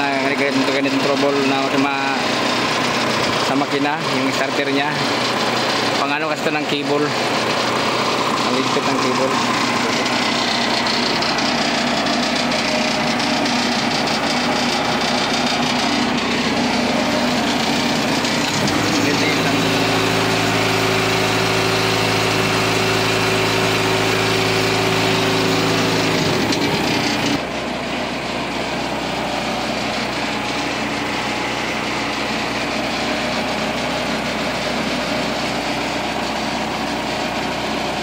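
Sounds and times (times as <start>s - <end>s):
engine idling: 0.0s - 38.0s
rough noisy engine: 0.0s - 38.0s.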